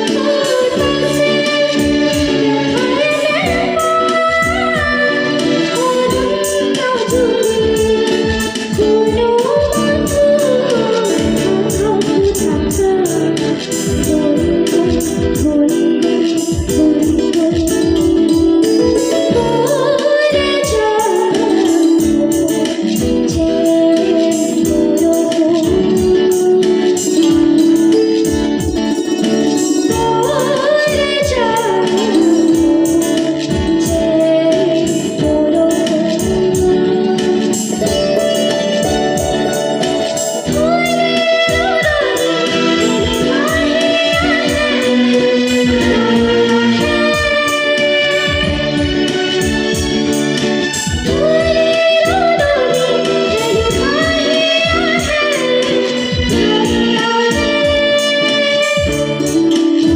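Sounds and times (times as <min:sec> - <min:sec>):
girl singing: 0:00.0 - 0:59.9
guitar: 0:00.0 - 0:59.9
keyboard: 0:00.0 - 0:59.9.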